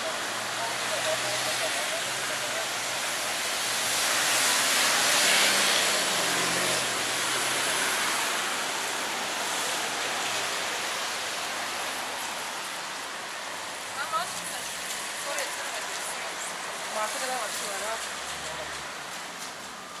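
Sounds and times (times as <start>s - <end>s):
rain hissing: 0.0s - 20.0s
traffic on wet street: 0.0s - 20.0s.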